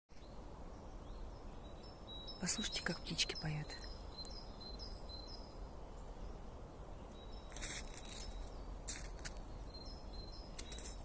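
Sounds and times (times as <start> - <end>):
songbirds singing: 0.1 - 11.0.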